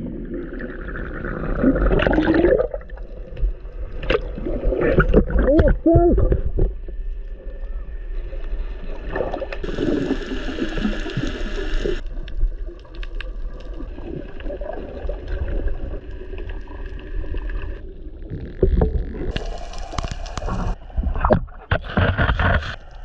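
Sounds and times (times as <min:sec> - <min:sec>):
low underwater rumble: 0:00.0 - 0:23.0
water gurgling and sloshing: 0:00.0 - 0:23.0.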